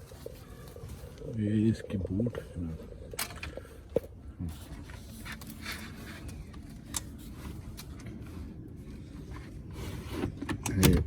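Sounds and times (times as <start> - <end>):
light scraping and rustling: 0.0 - 11.0
low steady hum: 0.0 - 11.0.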